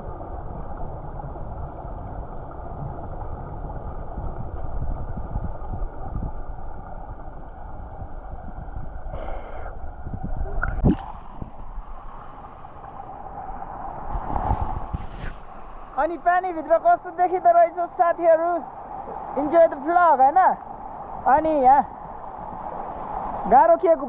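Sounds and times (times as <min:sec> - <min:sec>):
underwater gurgle of pond water: 0:00.0 - 0:23.5.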